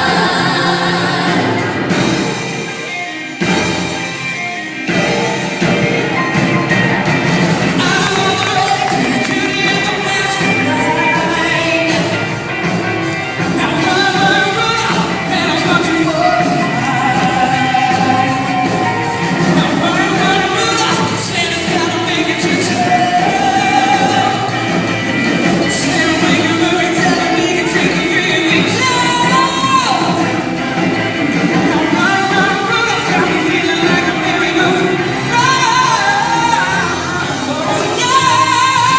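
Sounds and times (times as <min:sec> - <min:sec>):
person singing: 0:00.0 - 0:03.0, 0:05.0 - 0:38.9
pop-rock band: 0:00.0 - 0:38.9.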